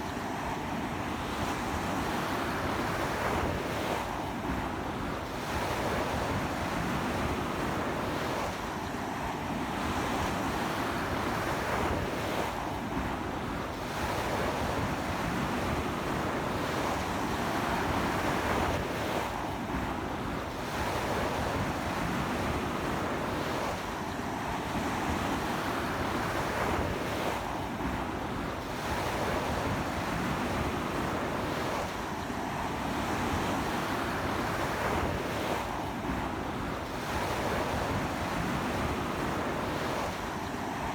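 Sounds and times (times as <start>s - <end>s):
strong sea wind: 0.0s - 40.9s.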